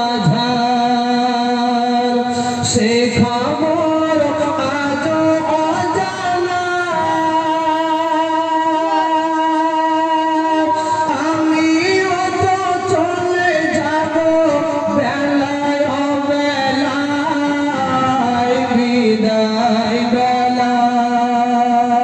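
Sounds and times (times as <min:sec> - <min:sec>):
man singing solo: 0:00.0 - 0:22.0.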